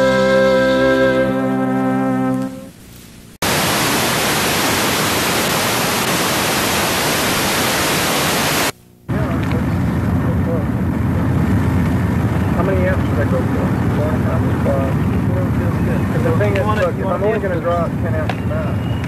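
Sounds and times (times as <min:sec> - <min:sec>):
videotape static hiss: 0:02.4 - 0:18.2.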